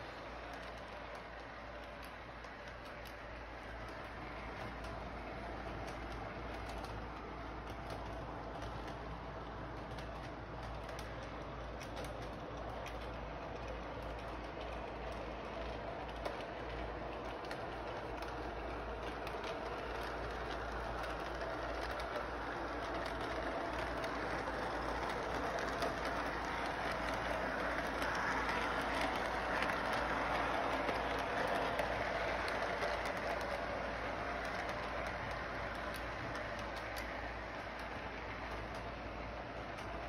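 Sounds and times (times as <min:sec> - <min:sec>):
faint clicks: 0:00.0 - 0:40.0
model train whirring rumble: 0:00.0 - 0:40.0.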